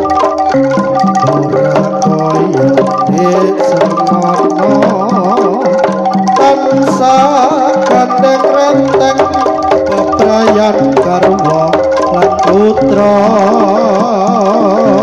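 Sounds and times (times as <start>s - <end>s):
hand drum strokes: 0.0s - 15.0s
ringing metallophone and gong: 0.0s - 15.0s
wavering melodic line: 0.0s - 15.0s.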